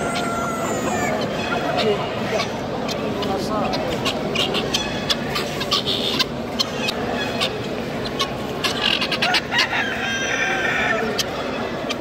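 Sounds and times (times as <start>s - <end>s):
market hubbub: 0.0s - 12.0s
poultry cackling calls: 0.0s - 12.0s.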